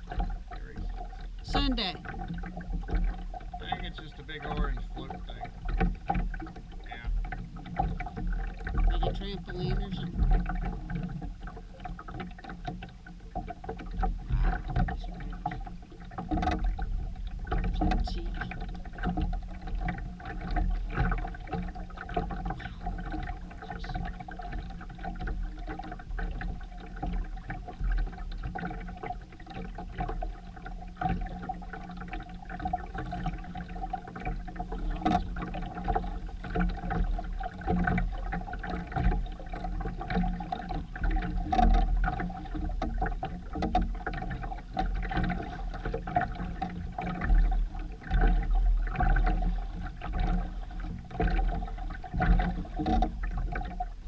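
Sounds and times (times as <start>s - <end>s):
water washing along hull: 0.0s - 54.0s.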